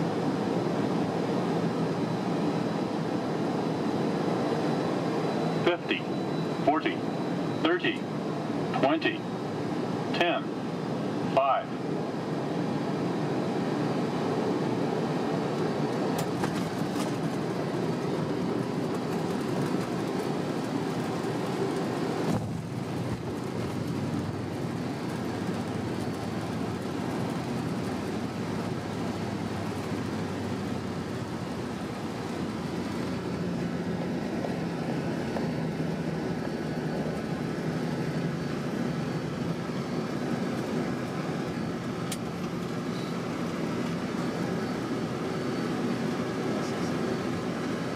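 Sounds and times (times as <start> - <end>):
aircraft engines and wheels rumbling: 0.0 - 47.9.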